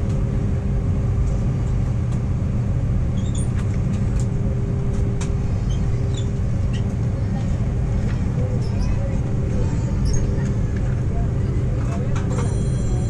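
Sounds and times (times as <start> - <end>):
jet engine rumble: 0.0 - 13.0
steady hum: 0.0 - 13.0.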